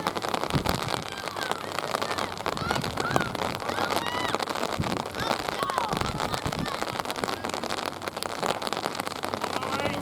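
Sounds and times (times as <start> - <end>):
distant shouts: 0.0 - 7.9, 9.4 - 10.0
rain pattering: 0.0 - 10.0.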